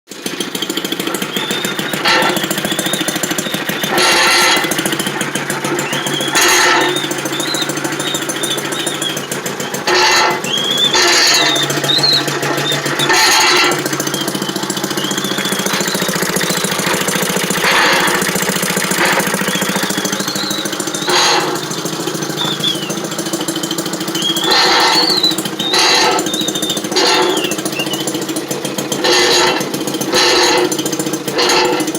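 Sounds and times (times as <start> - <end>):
washing machine mechanical beat: 0.2 - 31.9
short high squeaks: 0.5 - 31.9.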